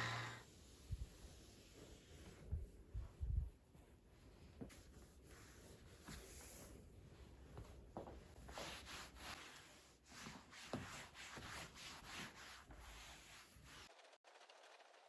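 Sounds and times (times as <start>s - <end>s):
faint rubbing strokes on a surface: 0.2s - 14.2s.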